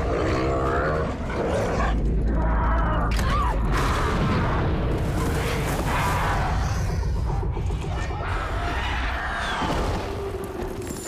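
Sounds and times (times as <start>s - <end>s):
film music: 0.0s - 11.0s.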